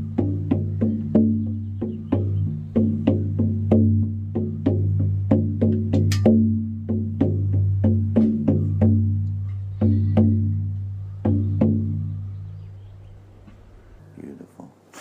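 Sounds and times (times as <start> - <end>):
frame drum struck with beater: 0.0 - 12.1.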